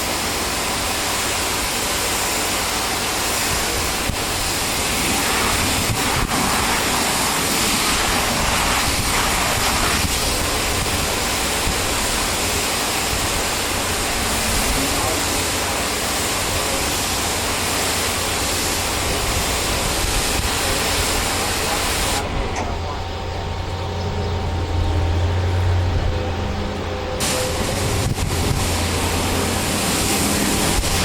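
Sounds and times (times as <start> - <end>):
pressure washer spraying: 0.0 - 22.4, 27.2 - 31.0.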